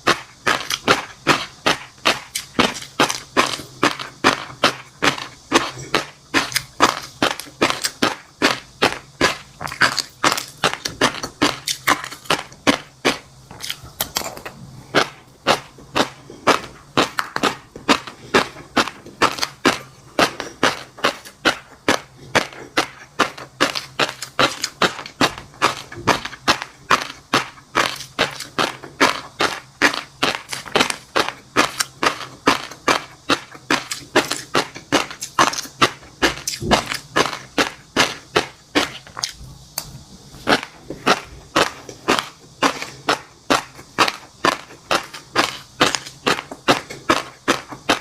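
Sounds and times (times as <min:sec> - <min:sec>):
chewing crunchy food: 0:00.0 - 0:48.0.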